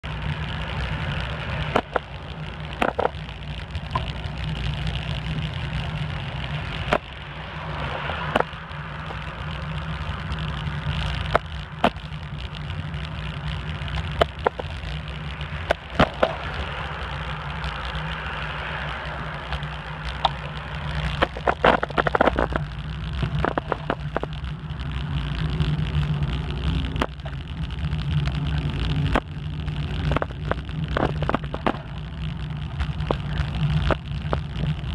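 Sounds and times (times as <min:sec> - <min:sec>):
bicycle knocking and rattling: 0:00.0 - 0:34.9
tyre and wind rumble: 0:00.0 - 0:34.9.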